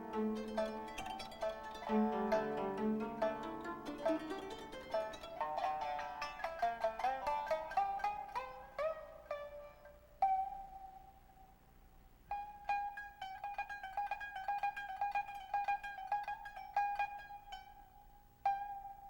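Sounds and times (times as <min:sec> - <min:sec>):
koto plucking: 0:00.0 - 0:11.4, 0:12.3 - 0:19.0.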